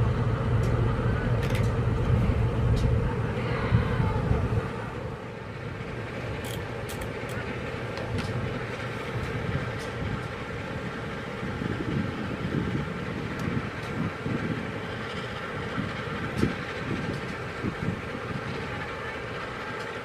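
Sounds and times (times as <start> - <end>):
low engine rumble: 0.0 - 20.0
outdoor background noise: 0.0 - 20.0.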